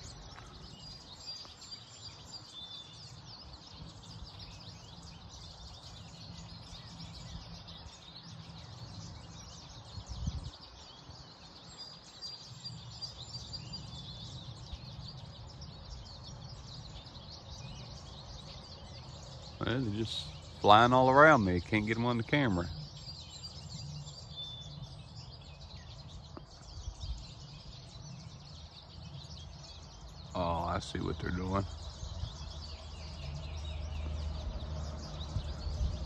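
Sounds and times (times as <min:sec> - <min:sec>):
finches chirping: 0:00.0 - 0:36.0.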